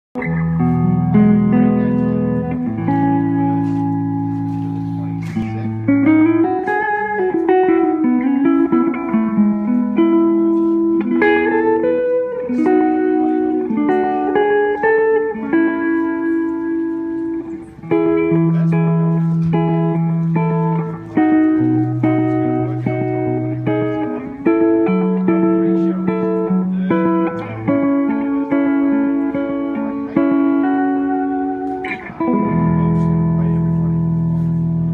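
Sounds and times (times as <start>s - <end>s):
electric guitar through amplifier: 0.2s - 34.9s.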